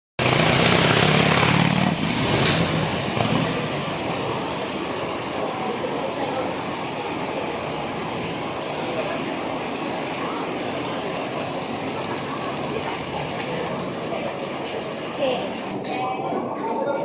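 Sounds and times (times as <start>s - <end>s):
car engine running: 0.2s - 15.8s
people's voices: 0.2s - 17.0s
traffic noise: 0.2s - 17.0s.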